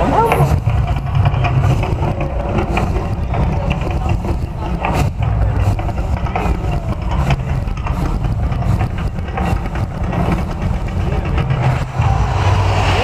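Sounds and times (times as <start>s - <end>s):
deep steady rumble: 0.0s - 13.0s.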